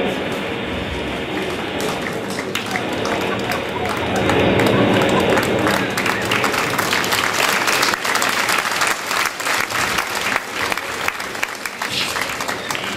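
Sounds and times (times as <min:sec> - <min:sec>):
audience applauding: 0:01.2 - 0:12.9.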